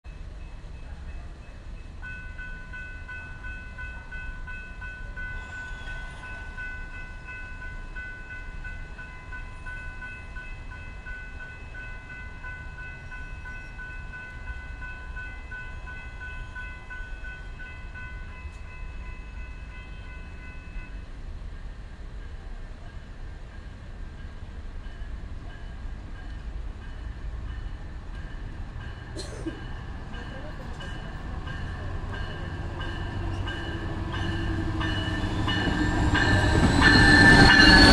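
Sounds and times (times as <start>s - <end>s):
railroad crossing bell ringing: 0.0s - 21.3s, 22.2s - 37.9s.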